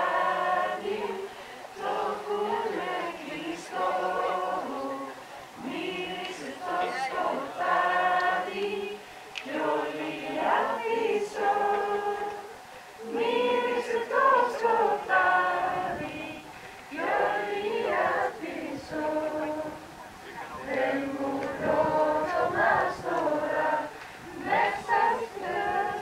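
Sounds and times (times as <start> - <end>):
youth choir singing unaccompanied: 0.0 - 26.0.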